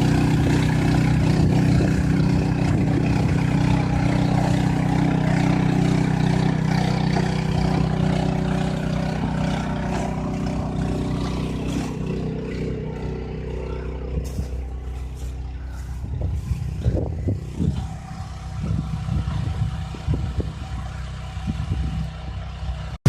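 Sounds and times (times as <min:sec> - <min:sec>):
farm machine engine running: 0:00.0 - 0:23.0.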